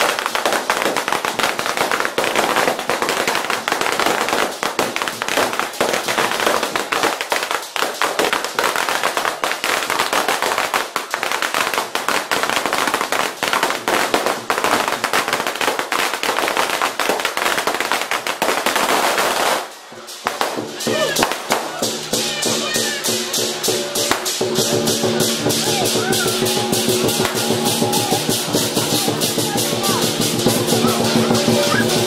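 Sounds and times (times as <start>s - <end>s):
firecrackers crackling: 0.0s - 32.0s.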